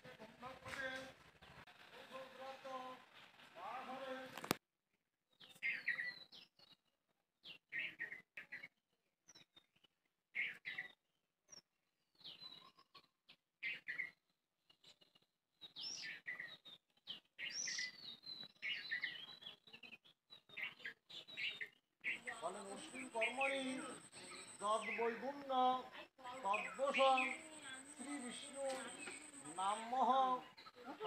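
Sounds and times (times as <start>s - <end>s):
small birds chirping: 5.3s - 31.0s.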